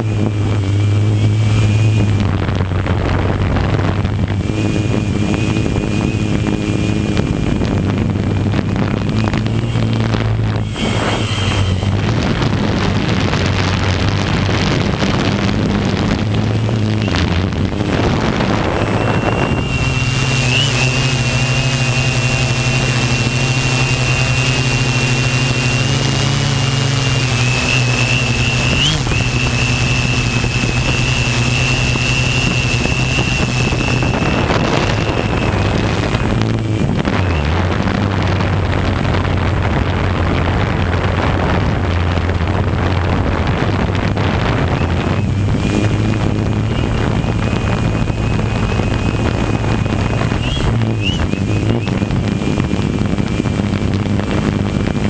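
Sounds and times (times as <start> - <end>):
thin high whine: 0.0 - 39.7, 42.2 - 54.9
drone motors buzzing: 0.0 - 55.0.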